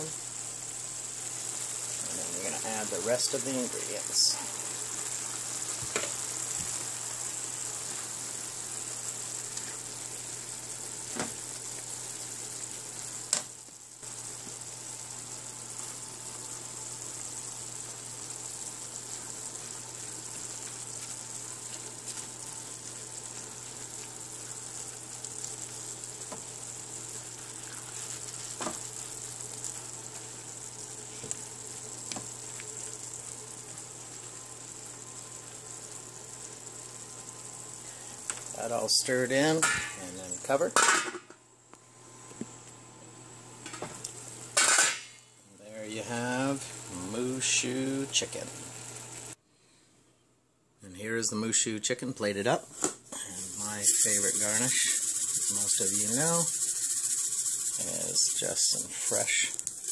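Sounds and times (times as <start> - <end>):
stir-fry sizzling in a pan: 0.0 - 49.4, 52.7 - 59.9.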